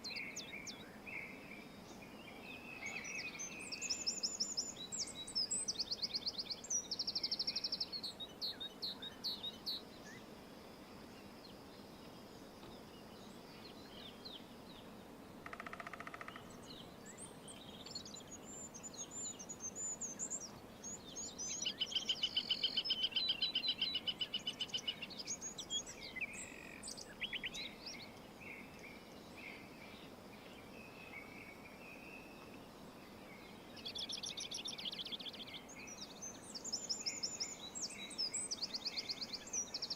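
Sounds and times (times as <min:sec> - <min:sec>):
faint outdoor hiss: 0:00.0 - 0:39.9
songbirds trilling: 0:00.0 - 0:39.9.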